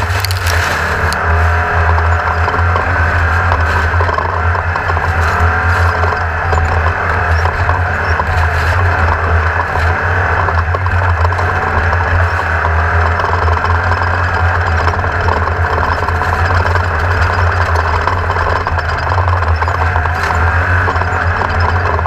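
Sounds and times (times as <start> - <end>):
knocks and rattles: 0.0 - 22.0
race car engine running hard: 0.0 - 22.0.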